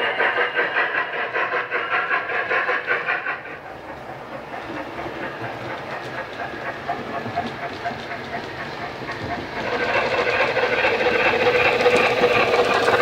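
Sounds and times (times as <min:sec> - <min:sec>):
model steam locomotive chuffs: 0:00.0 - 0:13.0
wheels running on track: 0:00.0 - 0:13.0.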